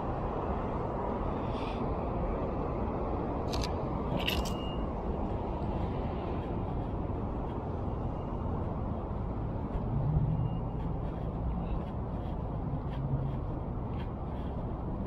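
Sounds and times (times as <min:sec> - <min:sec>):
street traffic rumbling: 0:00.0 - 0:15.0
vehicle engine drone: 0:00.0 - 0:15.0.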